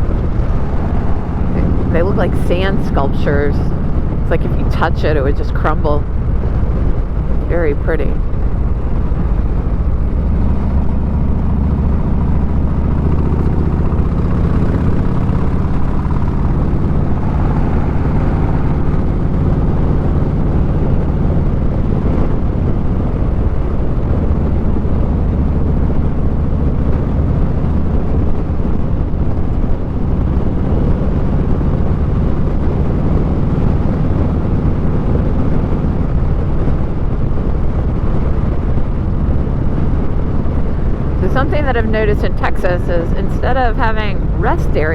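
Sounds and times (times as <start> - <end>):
motorcycle engine running: 0.0 - 44.9
wind rush on microphone: 0.0 - 44.9.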